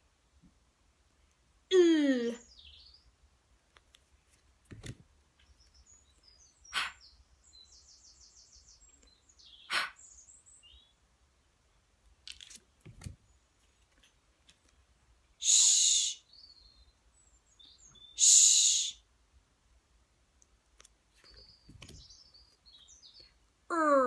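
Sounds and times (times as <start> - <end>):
faint birdsong: 1.0 - 24.0.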